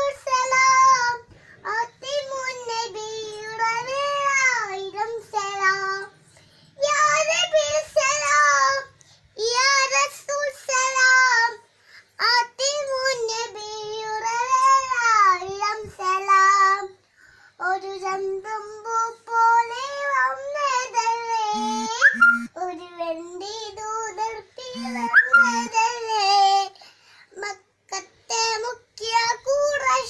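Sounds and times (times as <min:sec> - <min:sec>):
child singing a lullaby: 0:00.0 - 0:30.0.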